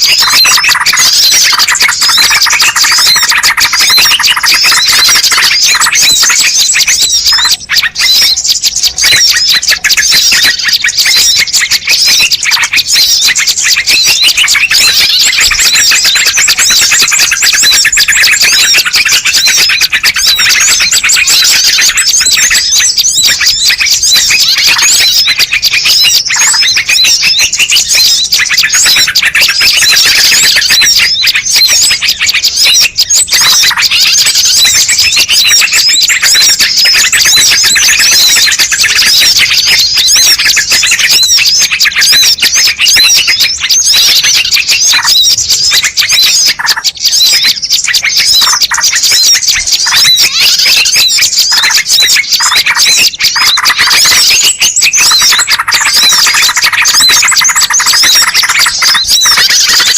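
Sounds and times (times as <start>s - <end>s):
many small birds chirping: 0.0s - 59.9s.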